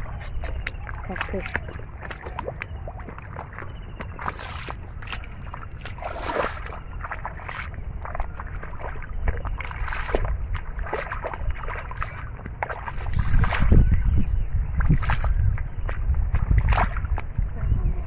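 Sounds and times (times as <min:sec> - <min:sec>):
bare feet squelching through mud: 0:00.0 - 0:17.6.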